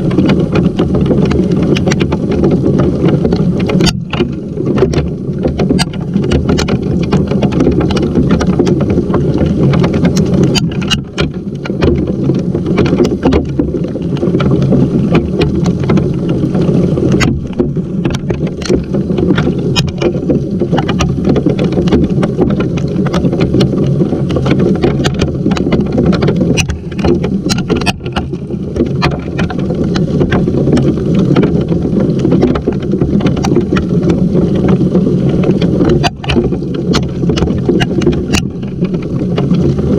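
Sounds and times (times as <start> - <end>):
heavy rain and hail pelting: 0.0 - 39.9.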